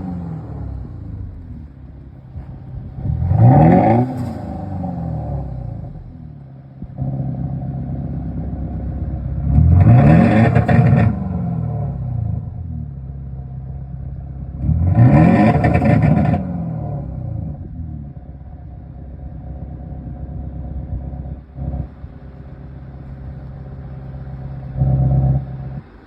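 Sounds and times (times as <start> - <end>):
diesel engine idling and revving: 0.0 - 26.0.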